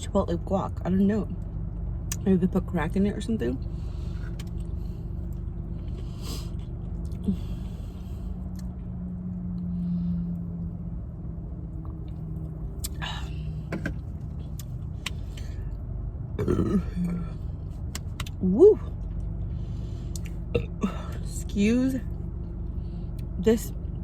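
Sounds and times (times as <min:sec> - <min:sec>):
car cabin rumble and hum: 0:00.0 - 0:24.0.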